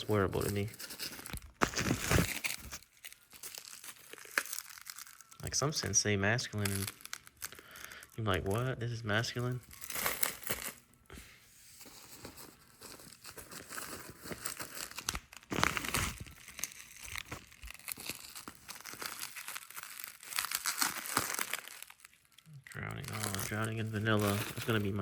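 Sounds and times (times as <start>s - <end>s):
packaging crinkling and tearing: 0.0s - 11.0s, 11.9s - 25.0s.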